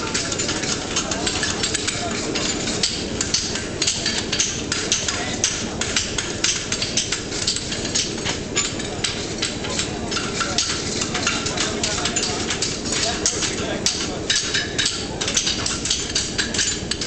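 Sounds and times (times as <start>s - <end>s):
hammers striking horseshoes on anvils: 0.0s - 17.0s.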